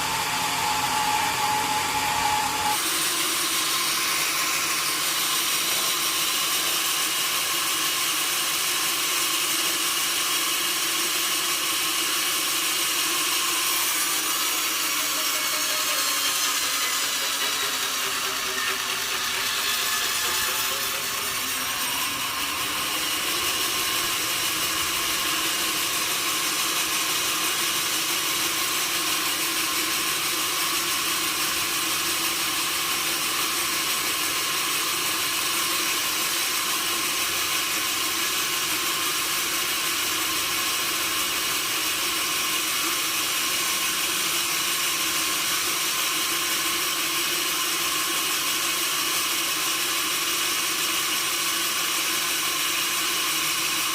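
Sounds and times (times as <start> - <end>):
sawmill saw cutting wood: 0.0 - 53.9.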